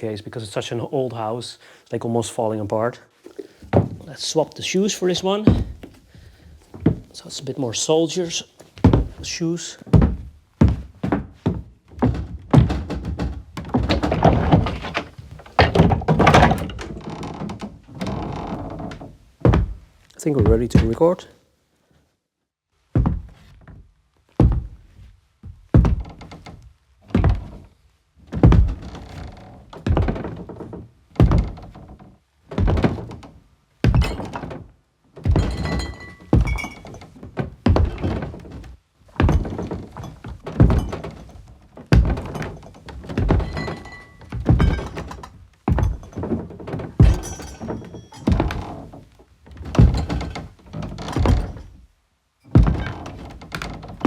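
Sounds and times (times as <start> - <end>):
heavy footsteps on wooden floor: 3.2 - 21.3, 22.9 - 51.9, 52.5 - 54.0.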